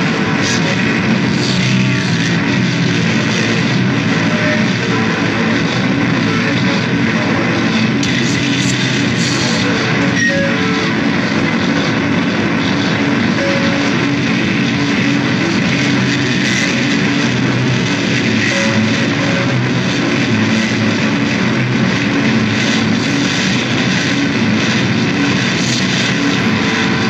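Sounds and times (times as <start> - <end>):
distorted electric guitar music: 0.0 - 27.0.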